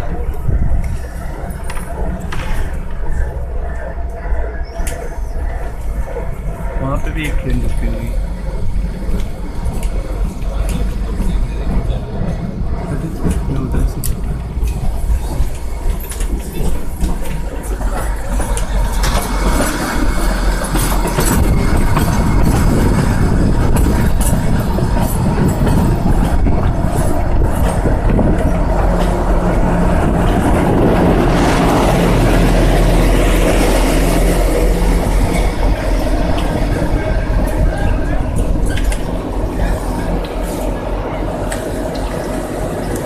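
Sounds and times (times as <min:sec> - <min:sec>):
diesel locomotive engine running: 0:00.0 - 0:43.0
train wheels clattering on rails: 0:00.0 - 0:43.0.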